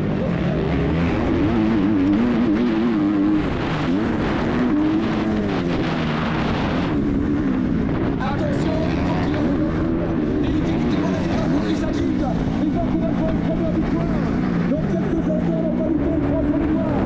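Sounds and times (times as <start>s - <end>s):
motocross bike engine racing: 0.0s - 17.0s.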